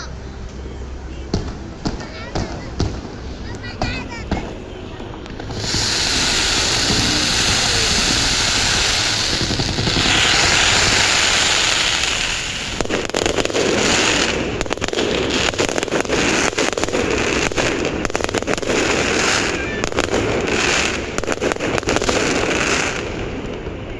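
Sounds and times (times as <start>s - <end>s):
fireworks crackling pops: 0.0s - 23.9s
fireworks hissing rush: 0.0s - 23.9s.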